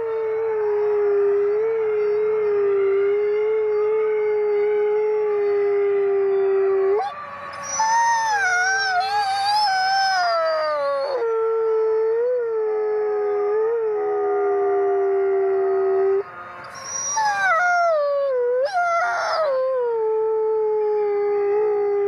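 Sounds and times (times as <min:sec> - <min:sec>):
wolf howling low: 0:00.0 - 0:22.0.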